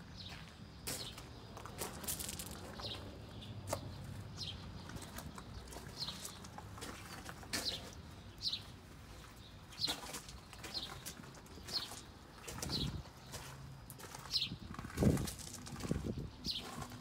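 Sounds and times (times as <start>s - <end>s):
footsteps crunching on gravel: 0.2s - 17.0s.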